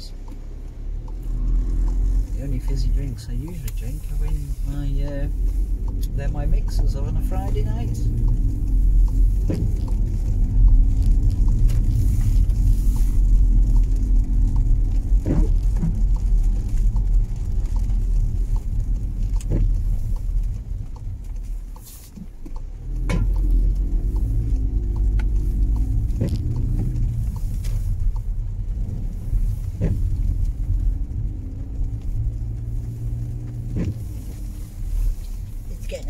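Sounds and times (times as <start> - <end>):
car engine and tyre rumble: 0.0 - 36.0
faint regular ticking: 0.0 - 36.0.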